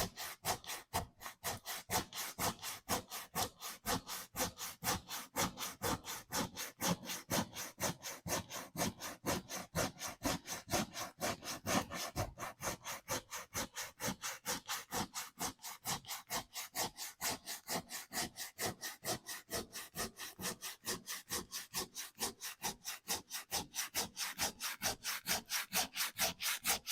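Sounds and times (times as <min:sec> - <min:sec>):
sandpaper rubbing on wood: 0:00.0 - 0:26.9.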